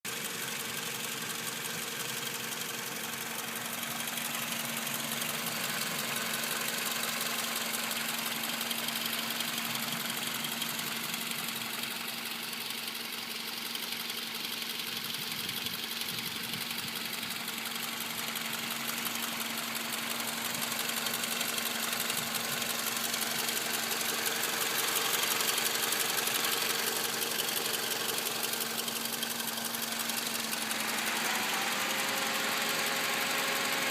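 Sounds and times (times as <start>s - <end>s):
car engine idling with rattle: 0.1s - 33.9s.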